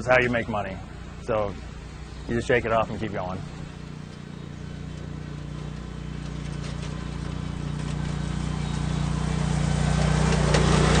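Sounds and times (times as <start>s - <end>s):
riding lawn mower engine: 0.0s - 11.0s.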